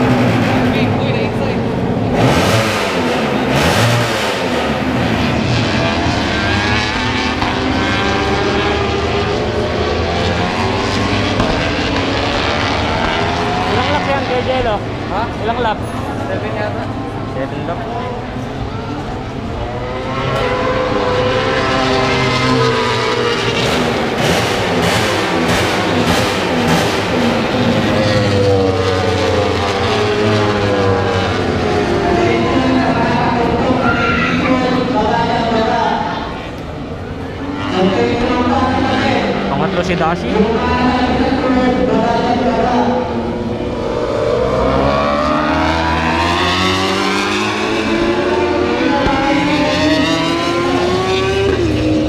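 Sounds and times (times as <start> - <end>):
motorcycle engines revving high: 0.0 - 52.0.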